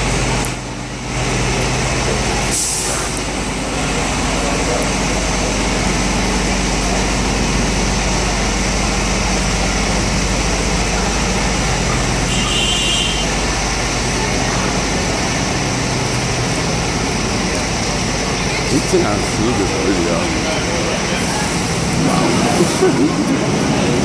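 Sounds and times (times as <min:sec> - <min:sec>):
city street traffic: 0:00.0 - 0:24.0
fire engines idling: 0:00.0 - 0:24.0.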